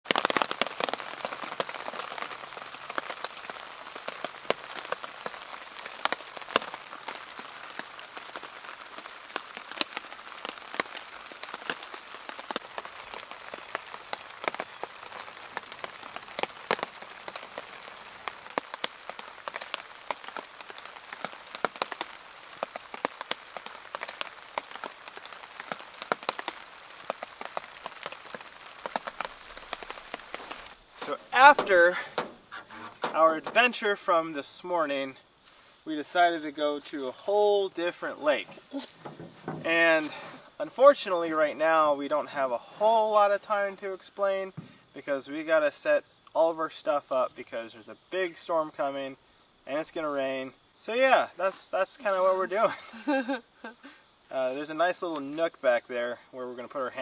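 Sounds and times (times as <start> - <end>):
raindrops tapping close by: 0.0 - 57.0
steady rain falling: 0.0 - 57.0.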